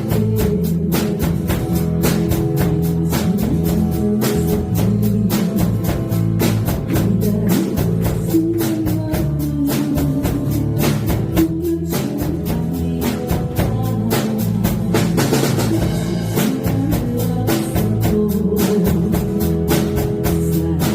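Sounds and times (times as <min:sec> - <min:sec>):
bass: 0:00.0 - 0:20.9
drum kit beat: 0:00.0 - 0:20.9
guitar: 0:00.0 - 0:20.9
held melody line: 0:00.0 - 0:20.9.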